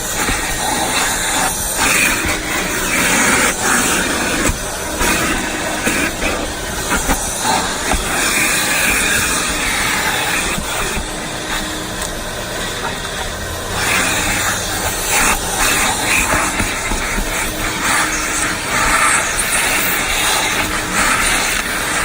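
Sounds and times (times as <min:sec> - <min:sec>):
vacuum hose hissing: 0:00.0 - 0:22.0.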